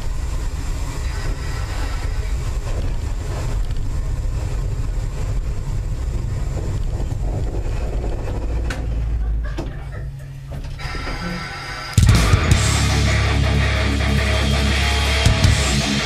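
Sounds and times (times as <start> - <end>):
train car rumbling on track: 0.0 - 16.0.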